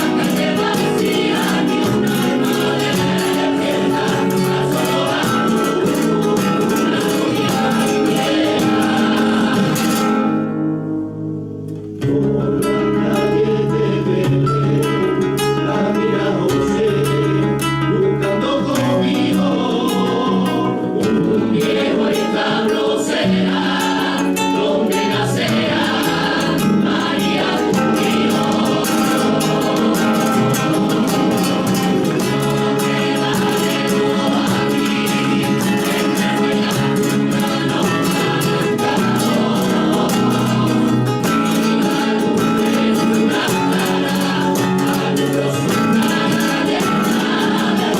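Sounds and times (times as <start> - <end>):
voices singing together: 0.0 - 10.5, 12.0 - 47.9
flamenco guitar: 0.0 - 47.9.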